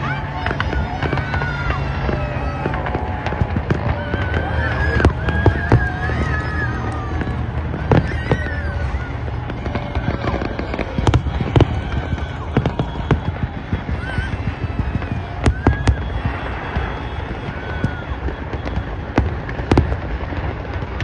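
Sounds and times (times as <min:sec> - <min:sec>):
fireworks bangs and crackles: 0:00.0 - 0:21.0
low rumble of crowd: 0:00.0 - 0:21.0.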